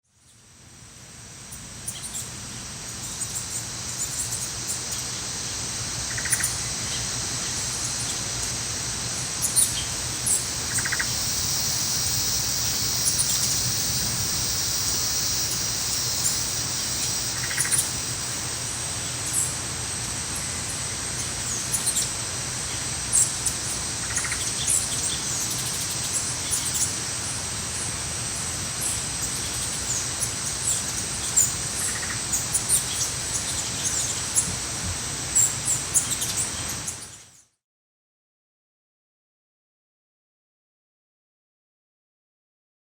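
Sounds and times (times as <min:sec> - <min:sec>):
high insect drone: 0:00.2 - 0:37.4.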